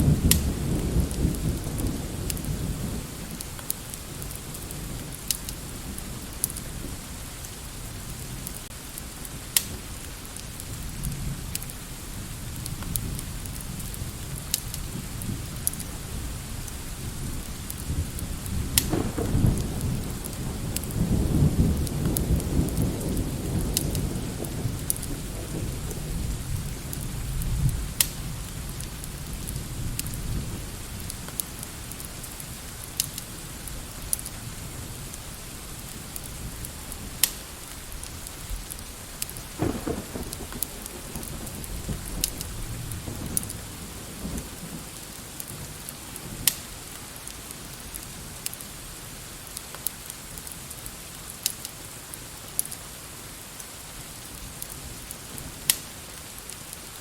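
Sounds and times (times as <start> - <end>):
thunder rumbling: 0.0 - 8.6, 9.2 - 46.5
steady rain: 0.0 - 57.0
wood fire crackling: 0.0 - 57.0.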